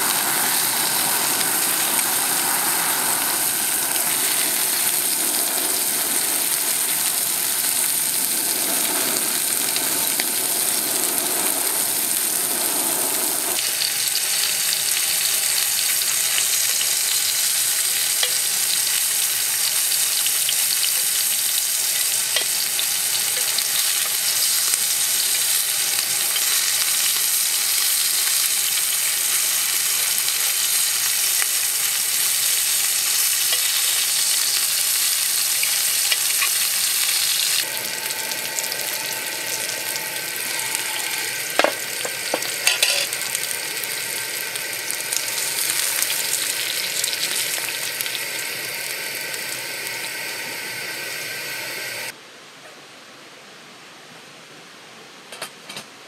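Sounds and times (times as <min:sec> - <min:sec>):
meat sizzling in hot oil: 0:00.0 - 0:52.1.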